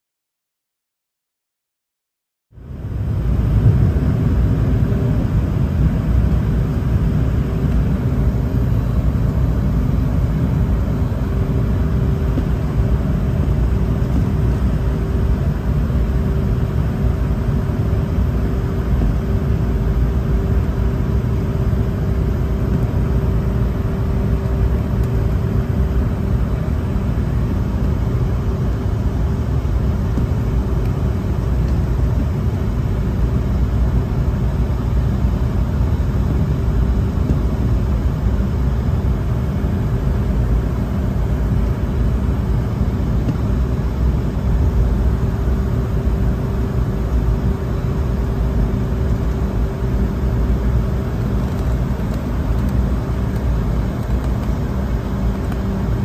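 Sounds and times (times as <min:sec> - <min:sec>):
steady hum: 0:02.5 - 0:56.0
jet engines droning: 0:02.6 - 0:56.0.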